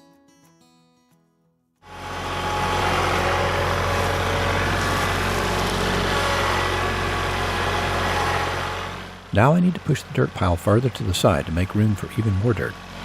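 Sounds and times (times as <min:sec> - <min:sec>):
tractor diesel engine running: 0:01.8 - 0:13.0.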